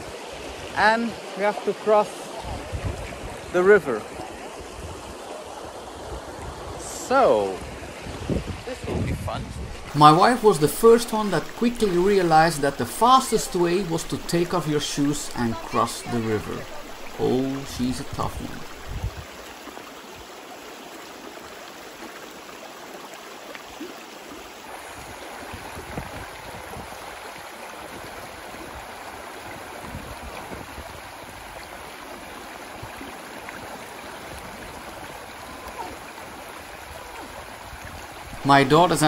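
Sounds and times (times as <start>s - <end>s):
river water rushing: 0.0s - 8.8s, 9.6s - 39.0s.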